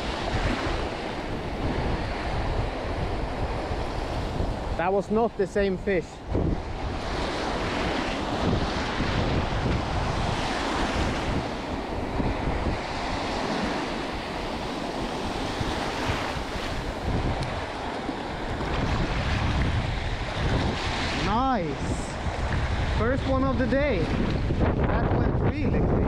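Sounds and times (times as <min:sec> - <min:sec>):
small waves breaking in shallow water: 0:00.0 - 0:26.0
wind rumbling on microphone: 0:00.0 - 0:26.0.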